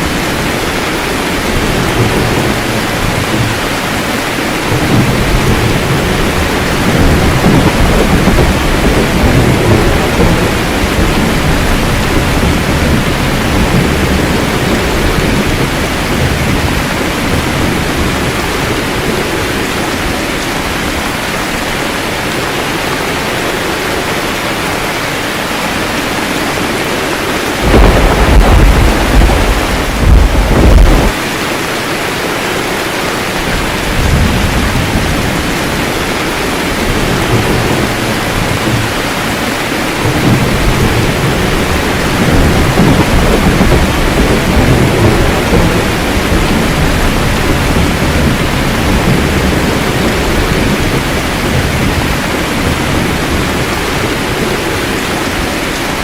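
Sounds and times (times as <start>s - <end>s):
rolling thunder: 0.0s - 21.1s, 26.2s - 31.2s, 33.4s - 55.5s
steady rain falling: 0.0s - 56.0s.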